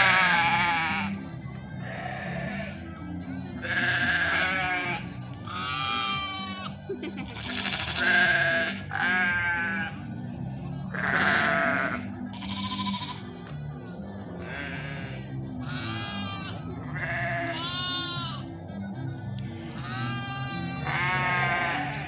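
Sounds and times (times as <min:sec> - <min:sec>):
sheep and lambs bleating: 0:00.0 - 0:13.6, 0:14.3 - 0:18.6, 0:19.4 - 0:22.0
music with steady bass: 0:00.0 - 0:22.0.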